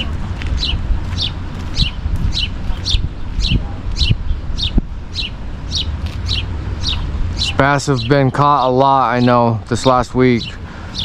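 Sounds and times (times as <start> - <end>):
bird chirping: 0.0 - 11.0
steady low rumble: 0.0 - 11.0.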